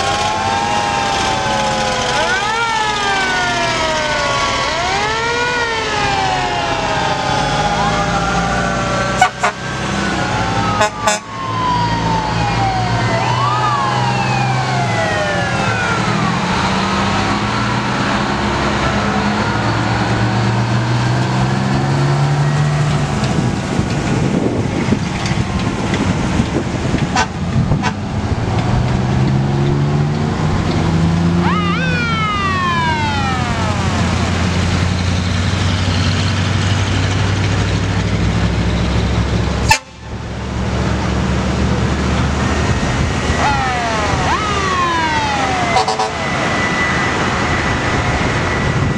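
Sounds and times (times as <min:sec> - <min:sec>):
fire engines driving past: 0:00.0 - 0:48.9
sirens wailing: 0:00.0 - 0:48.9.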